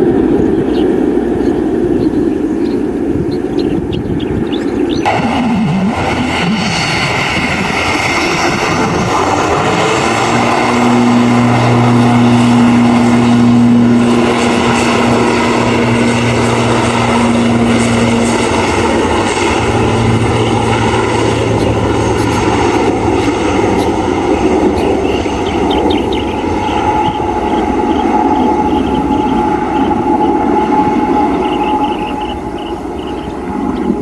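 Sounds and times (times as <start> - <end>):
aircraft engines running: 0.0 - 34.0
low steady hum: 5.0 - 34.0.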